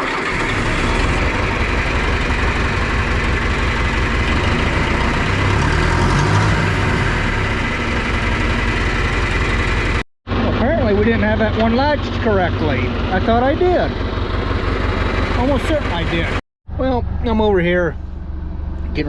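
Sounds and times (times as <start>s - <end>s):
tractor engine starting and idling: 0.0s - 19.0s.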